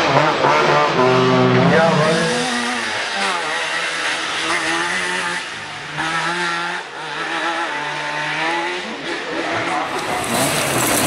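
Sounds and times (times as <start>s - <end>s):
two-stroke car engine revving: 0.0s - 11.0s.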